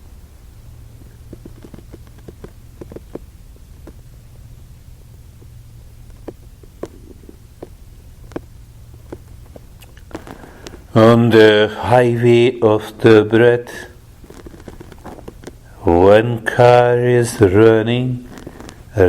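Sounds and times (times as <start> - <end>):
faint clicks and crackles: 0.0 - 11.2, 12.6 - 19.0
low room hum: 0.0 - 19.0.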